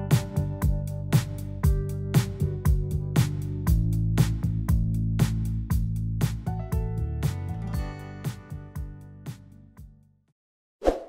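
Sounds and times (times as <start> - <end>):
music with a steady beat: 0.0 - 10.1.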